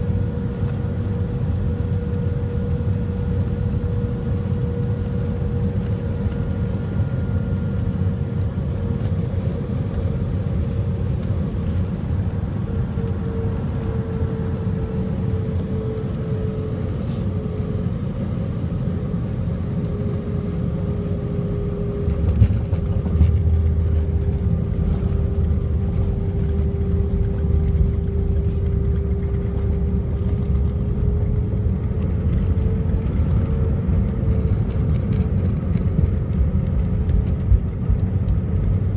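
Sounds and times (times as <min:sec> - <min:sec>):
airplane engine and airflow rumble: 0:00.0 - 0:38.9
faint engine whine: 0:00.0 - 0:38.9.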